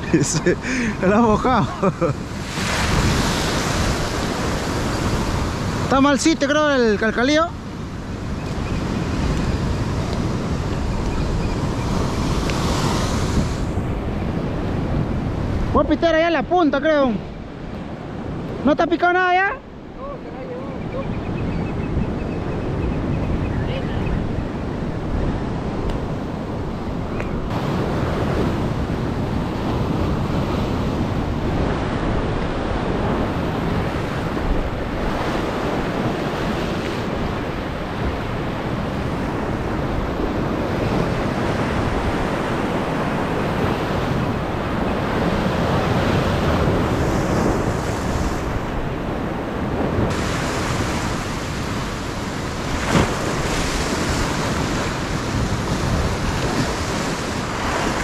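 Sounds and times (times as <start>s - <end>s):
wind buffeting microphone: 0.0s - 15.8s, 19.8s - 58.0s
ocean surf breaking on rocks: 0.0s - 58.0s.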